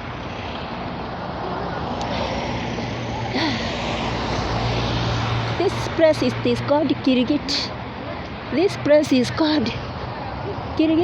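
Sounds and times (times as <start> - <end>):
road noise: 0.0 - 11.0
vehicle engine hum: 0.0 - 11.0
faint voices: 0.9 - 11.0.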